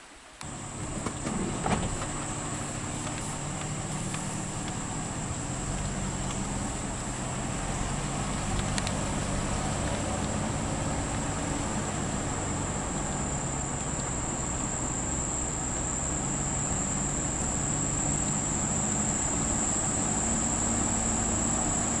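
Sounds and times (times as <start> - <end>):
insects chirping: 0.0 - 22.0
vehicle engine and road noise: 0.0 - 22.0.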